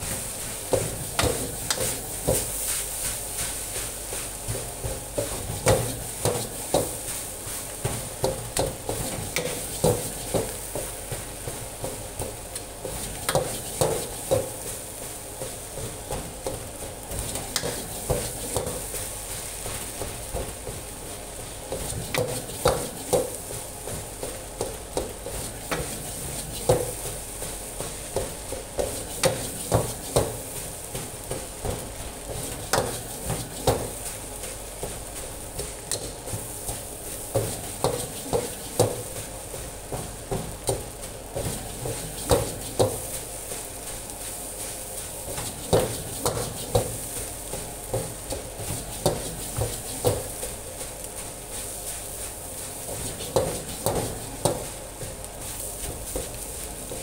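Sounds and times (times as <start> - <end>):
frying sizzle: 0.0 - 57.0.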